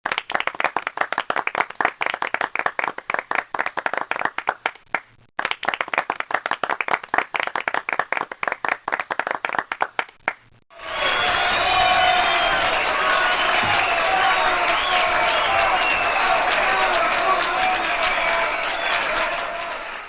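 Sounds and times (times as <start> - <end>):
hands clapping: 0.0 - 20.0.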